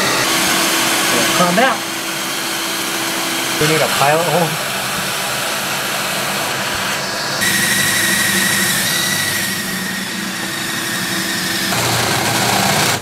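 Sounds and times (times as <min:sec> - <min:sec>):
cordless drill whining: 0:00.0 - 0:13.0
vacuum running: 0:00.0 - 0:13.0.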